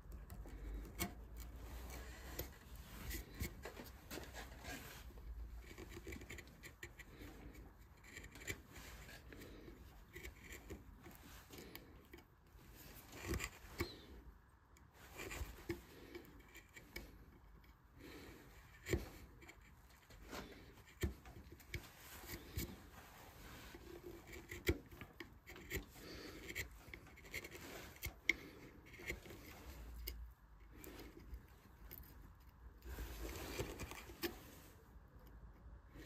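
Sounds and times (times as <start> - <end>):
carving tool scraping wood: 0.0 - 36.0.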